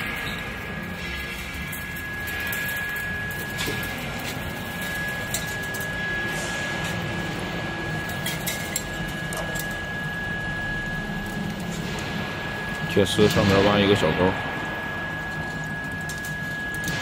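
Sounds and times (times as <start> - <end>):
machinery hum with high whine: 0.0 - 17.0.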